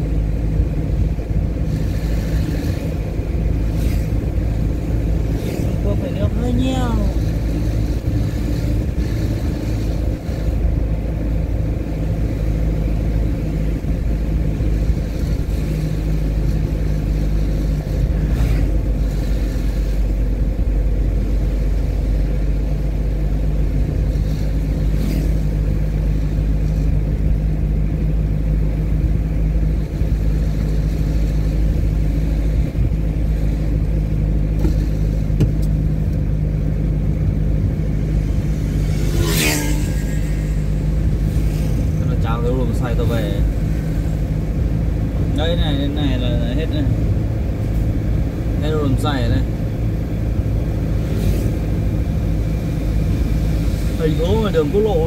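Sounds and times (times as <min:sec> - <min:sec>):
road rumble: 0:00.0 - 0:55.0
vehicle engine hum: 0:00.0 - 0:55.0.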